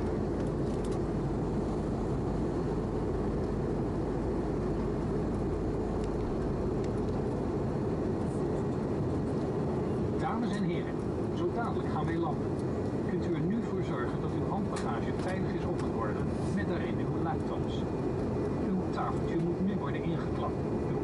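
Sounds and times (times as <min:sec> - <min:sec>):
airliner cabin noise in flight: 0:00.0 - 0:21.0.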